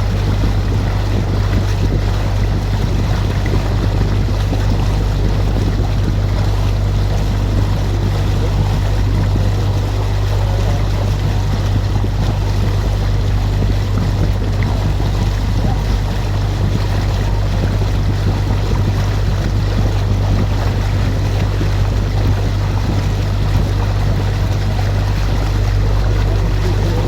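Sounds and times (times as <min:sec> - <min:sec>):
boat engine drone: 0:00.0 - 0:27.0
water noise: 0:00.0 - 0:27.0
wind noise: 0:00.0 - 0:27.0.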